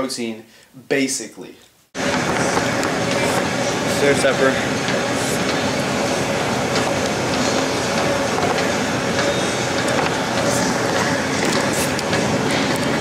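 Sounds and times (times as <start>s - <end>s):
machine clicks: 2.0s - 13.0s
stair-stepper machine running: 2.0s - 13.0s.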